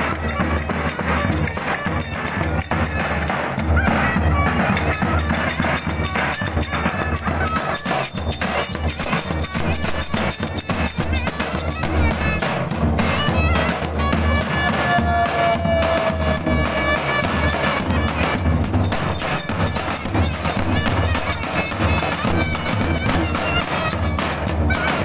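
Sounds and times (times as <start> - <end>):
lively folk music: 0.0 - 25.0.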